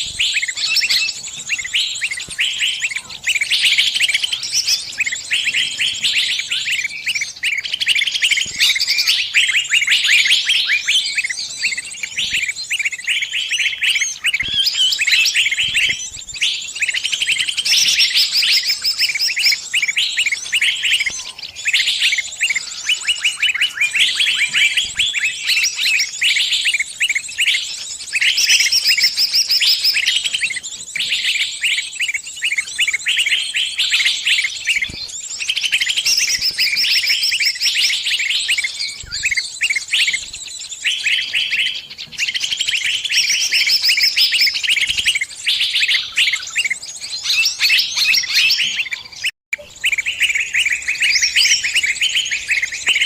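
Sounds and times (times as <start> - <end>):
small bird distress chirps: 0.0 - 53.0.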